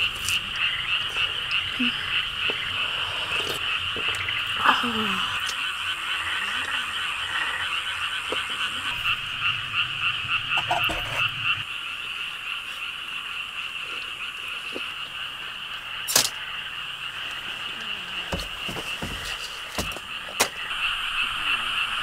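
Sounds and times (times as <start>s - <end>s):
chorus of frogs: 0.0s - 22.0s.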